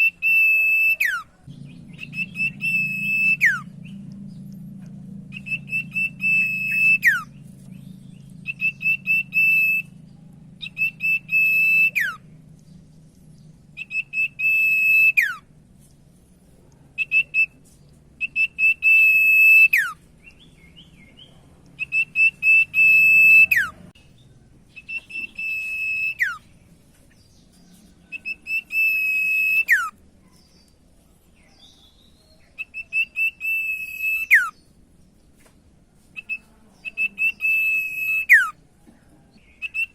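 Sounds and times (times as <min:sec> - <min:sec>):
bird singing whistled notes: 0:00.0 - 0:04.6, 0:05.3 - 0:15.4, 0:17.0 - 0:17.6, 0:18.2 - 0:30.7, 0:31.4 - 0:34.7, 0:36.2 - 0:38.6, 0:39.2 - 0:39.9
faint low hum: 0:00.0 - 0:39.9.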